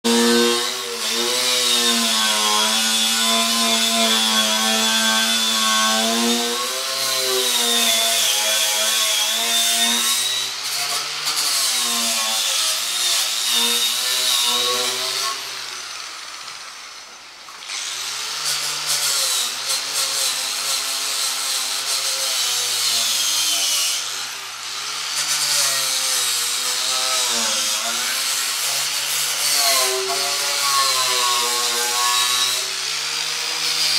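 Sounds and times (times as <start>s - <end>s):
angle grinder motor: 0.1s - 33.9s
grinder scraping metal: 0.1s - 33.9s.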